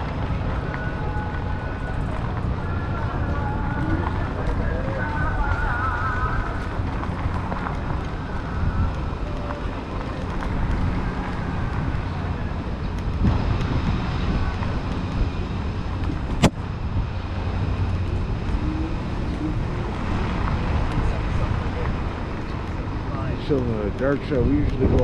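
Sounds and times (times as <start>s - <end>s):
wind and rolling rumble: 0.0s - 25.0s.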